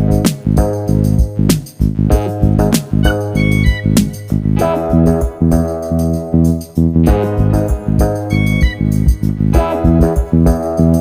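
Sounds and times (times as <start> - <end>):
keyboard instrumental music with beat: 0.0 - 11.0.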